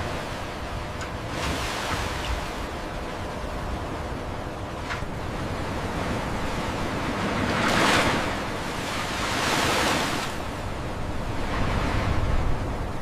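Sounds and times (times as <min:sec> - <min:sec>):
sea waves washing: 0:00.0 - 0:13.0.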